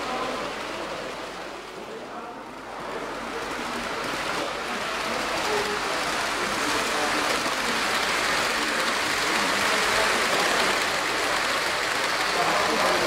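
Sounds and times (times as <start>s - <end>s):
crowd murmur: 0.0s - 13.0s.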